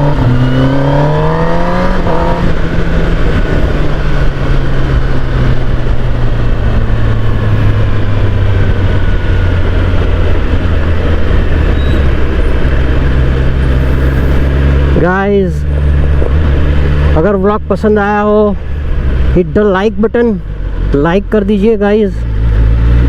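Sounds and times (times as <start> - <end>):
motorcycle engine cruising: 0.0 - 23.0
wind rush on microphone: 0.0 - 23.0.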